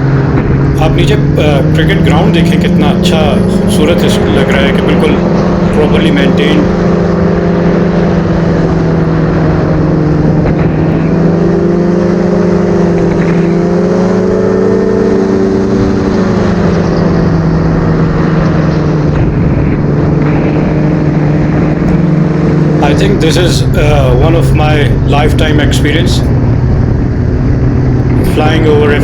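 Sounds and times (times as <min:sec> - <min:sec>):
engine and propeller droning: 0:00.0 - 0:29.0.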